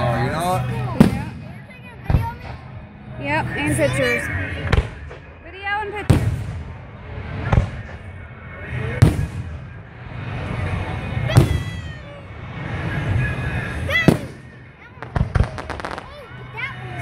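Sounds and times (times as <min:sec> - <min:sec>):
low rumbling: 0:00.0 - 0:17.0.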